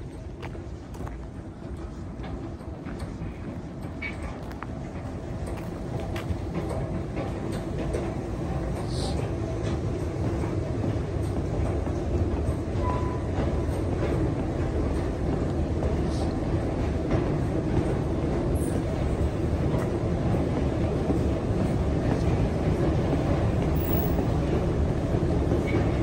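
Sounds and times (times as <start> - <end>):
metro train rumble: 0.0 - 26.0.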